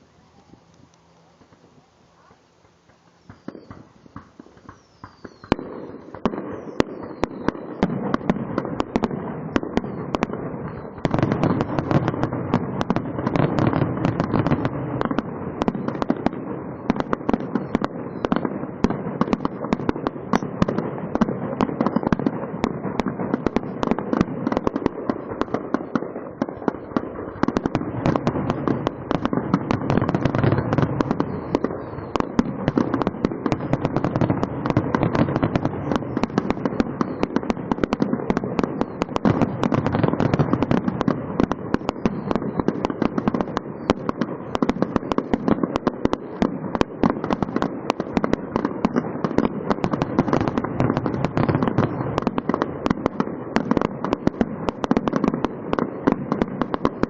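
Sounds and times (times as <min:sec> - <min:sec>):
fireworks popping and crackling: 0:00.0 - 0:57.0.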